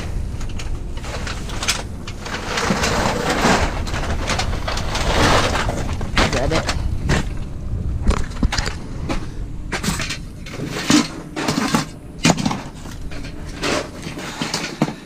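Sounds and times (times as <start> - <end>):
low rumble: 0.0 - 15.0
scrap metal clanking: 0.0 - 15.0.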